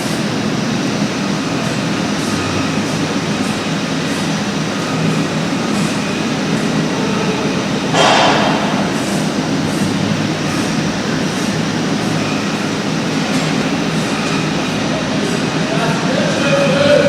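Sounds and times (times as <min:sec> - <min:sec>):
machine running with hum: 0:00.0 - 0:15.6.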